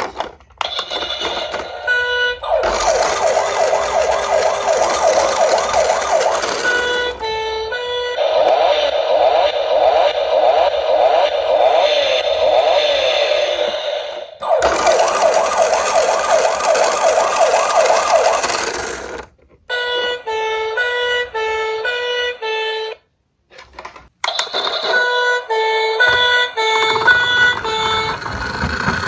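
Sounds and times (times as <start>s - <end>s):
toy siren wailing yelp: 0.6s - 13.5s, 14.4s - 23.0s, 24.2s - 29.0s
two-tone hi-lo siren: 0.7s - 13.8s, 14.4s - 23.0s, 24.3s - 29.0s.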